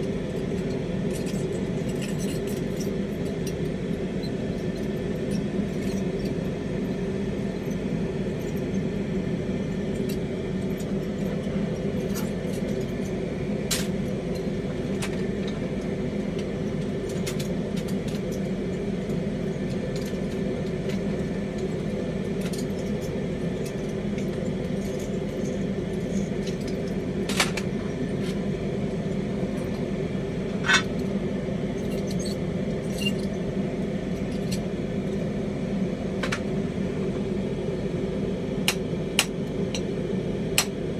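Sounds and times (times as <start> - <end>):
torch humming and hissing: 0.0 - 40.9.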